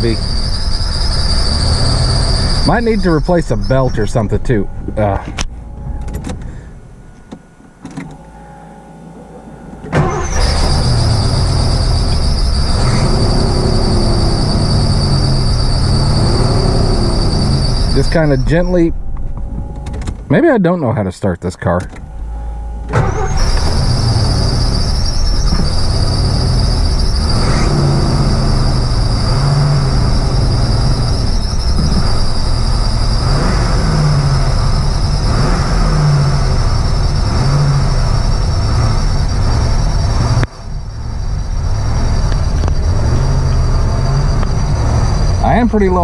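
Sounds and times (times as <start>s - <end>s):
belt squealing: 0.0s - 6.4s, 9.8s - 20.3s, 21.8s - 46.0s
engine starting and running: 0.0s - 20.6s, 21.6s - 46.0s.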